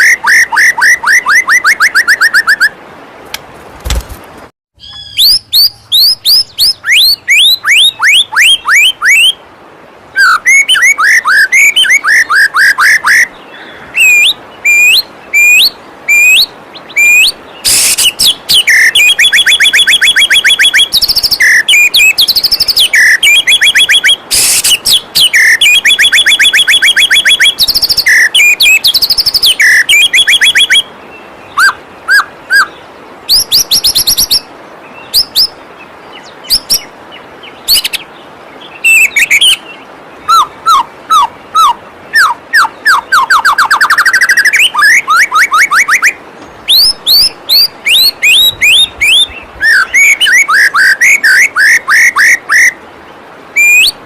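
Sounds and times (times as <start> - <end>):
songbird singing whistles and trills: 0.0 - 2.8, 4.8 - 9.4, 10.1 - 52.8, 53.5 - 54.0.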